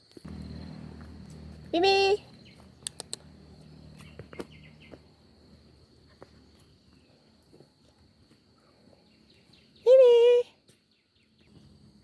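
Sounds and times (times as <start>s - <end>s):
footsteps on ground: 0.0s - 9.7s.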